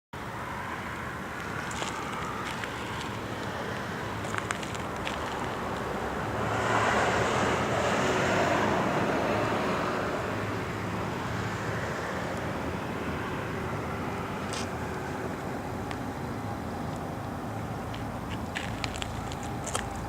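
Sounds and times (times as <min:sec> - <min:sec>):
vehicle passing: 0:00.3 - 0:20.0.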